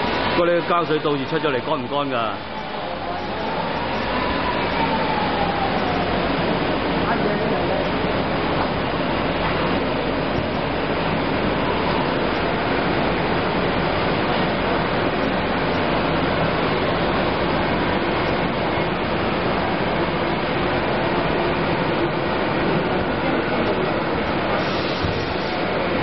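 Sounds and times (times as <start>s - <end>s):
machine running steadily: 0.0s - 26.0s.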